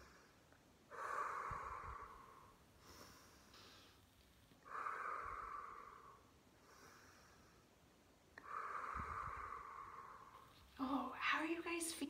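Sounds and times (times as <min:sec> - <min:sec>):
person breathing through nose: 0:00.0 - 0:07.7, 0:08.4 - 0:10.6.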